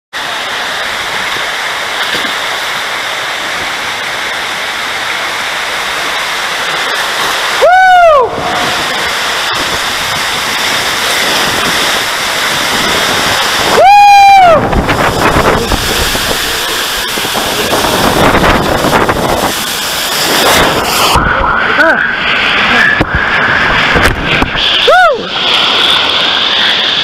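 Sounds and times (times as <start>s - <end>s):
water rushing down slide: 0.2s - 27.0s.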